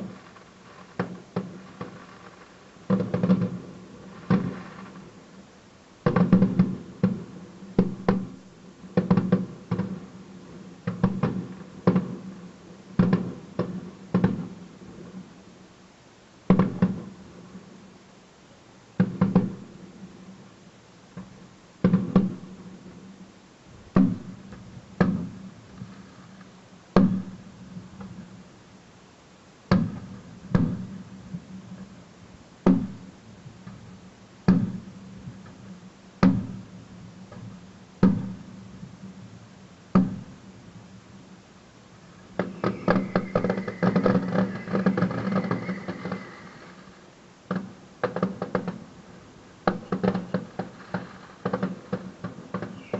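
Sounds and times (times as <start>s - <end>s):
fireworks bangs: 0.0s - 5.2s, 6.0s - 15.2s, 16.5s - 17.7s, 19.0s - 20.4s, 21.1s - 28.3s, 29.7s - 32.0s, 32.6s - 36.7s, 37.3s - 39.0s, 39.9s - 40.4s, 42.0s - 52.9s.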